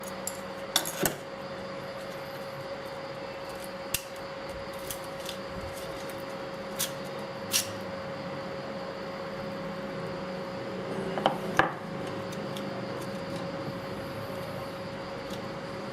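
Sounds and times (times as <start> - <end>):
steady background hum: 0.0 - 15.9.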